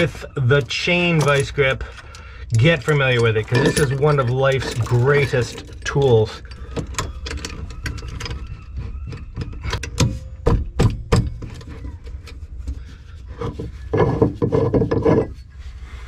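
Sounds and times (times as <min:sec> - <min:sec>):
metal threads grating: 0:00.0 - 0:10.4, 0:11.6 - 0:16.0
metal clicks and knocks: 0:00.0 - 0:15.4.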